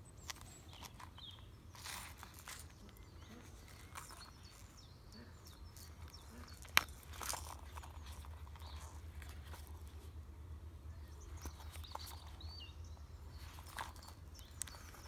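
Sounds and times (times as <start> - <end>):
low steady hum: 0.0 - 15.0
leather rustling and creaking: 0.2 - 15.0.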